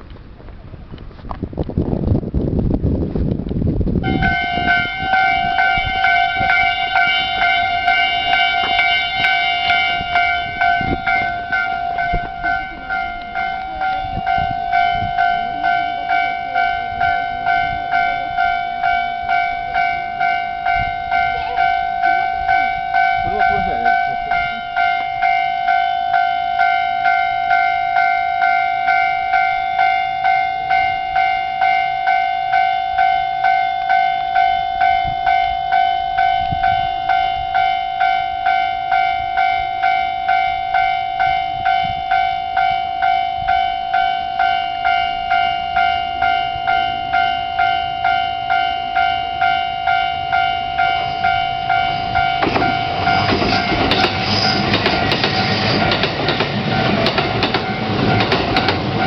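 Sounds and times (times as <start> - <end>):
train rumble: 0.0 - 59.0
level-crossing warning bell ringing: 4.0 - 59.0.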